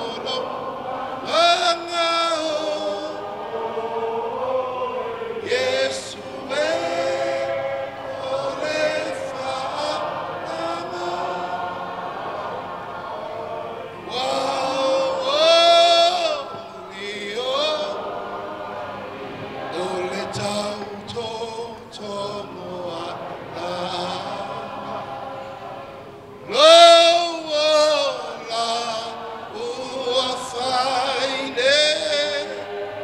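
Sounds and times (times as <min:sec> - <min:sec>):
man singing through microphone: 0:00.0 - 0:11.8, 0:13.2 - 0:18.9, 0:19.6 - 0:25.3, 0:26.4 - 0:33.0
voices singing along: 0:00.0 - 0:33.0.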